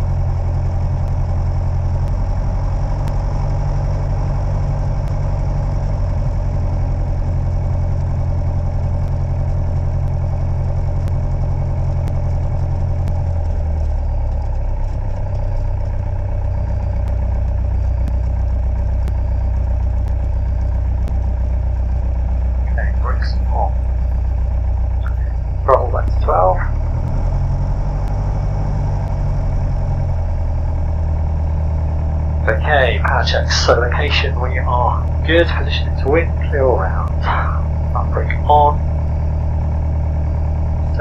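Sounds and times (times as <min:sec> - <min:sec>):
aircraft piston engine drone: 0:00.0 - 0:41.0.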